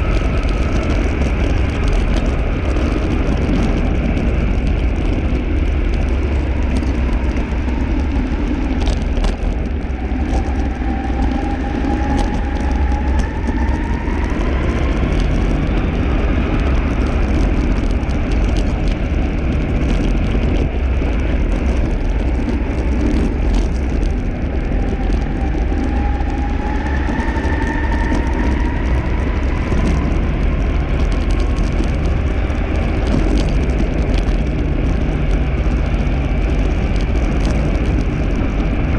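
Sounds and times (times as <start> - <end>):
tyres rumbling on asphalt: 0.0 - 38.9.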